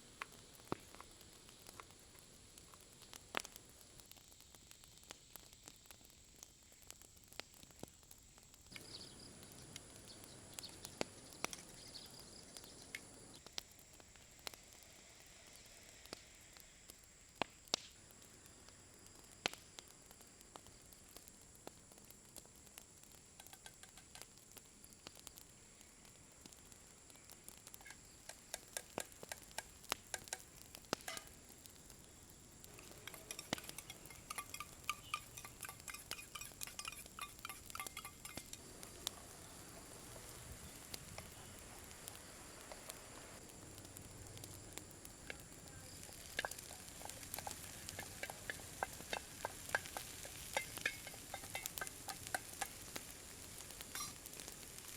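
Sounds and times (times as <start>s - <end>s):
crackles and pops: 0.0s - 54.9s
food sizzling in a pan: 0.0s - 54.9s.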